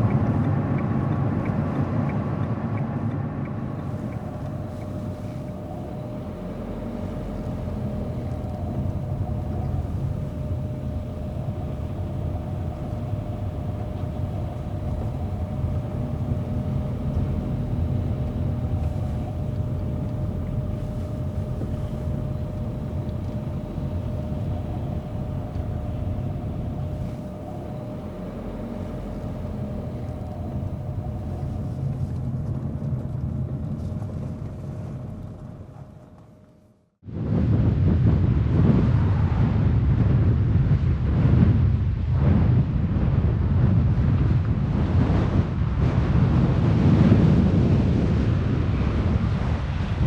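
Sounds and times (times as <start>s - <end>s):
car road and engine rumble: 0.0s - 50.0s
faint steady hum: 0.0s - 50.0s.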